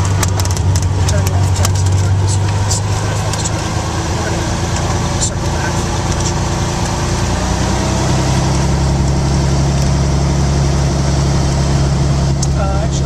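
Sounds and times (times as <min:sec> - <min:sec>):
plane engine and propeller: 0:00.0 - 0:13.0.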